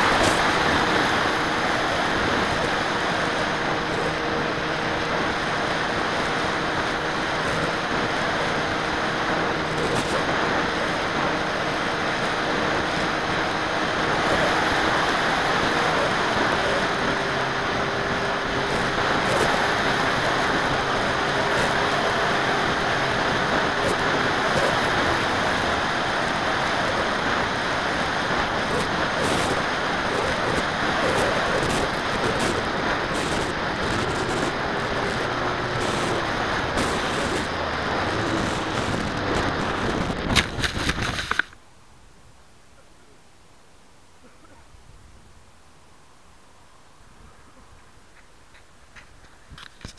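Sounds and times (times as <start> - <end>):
motor and propeller whine: 0.0 - 41.5
wind rushing over microphone: 0.0 - 41.6.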